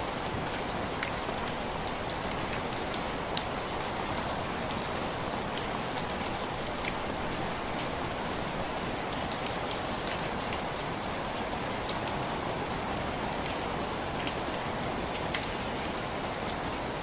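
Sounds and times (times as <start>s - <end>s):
rain on window glass: 0.0s - 17.0s.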